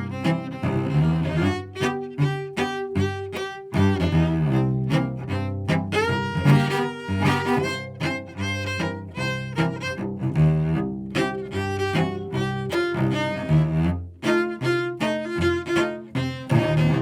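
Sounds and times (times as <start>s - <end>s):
low bowed strings music: 0.0s - 17.0s.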